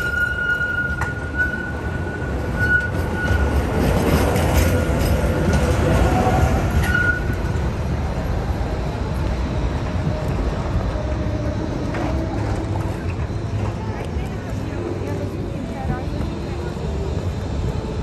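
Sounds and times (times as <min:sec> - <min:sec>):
passing tram rumble: 0:00.0 - 0:18.0
tram wheels squealing on rails: 0:00.0 - 0:18.0.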